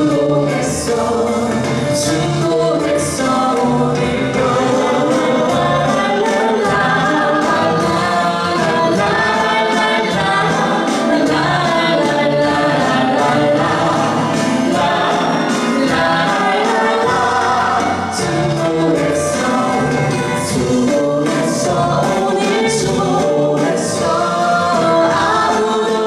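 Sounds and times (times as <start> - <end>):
music: 0.0 - 26.0
singers in choir-like harmony: 0.0 - 26.0.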